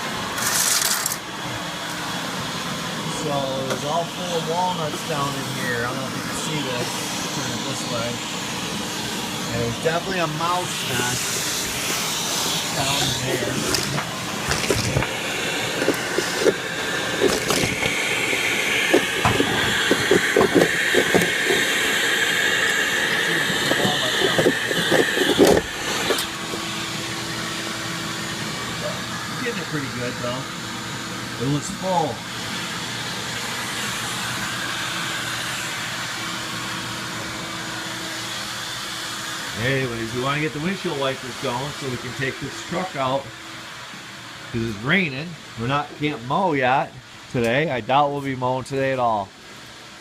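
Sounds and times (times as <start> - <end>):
vacuum running: 0.0 - 50.0.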